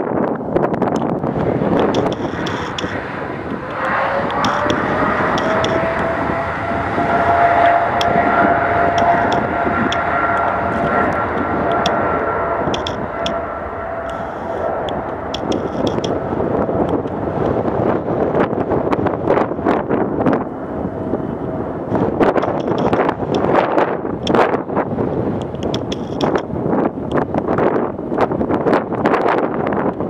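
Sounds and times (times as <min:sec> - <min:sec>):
engine whine climbing in pitch: 0:00.0 - 0:30.0
jet engines rushing: 0:00.0 - 0:30.0.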